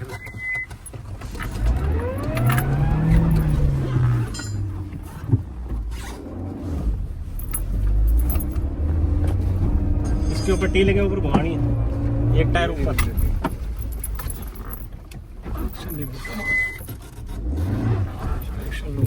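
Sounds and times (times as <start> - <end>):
knocks from body and suspension: 0.0 - 19.0
suv engine revving under load: 0.0 - 19.0.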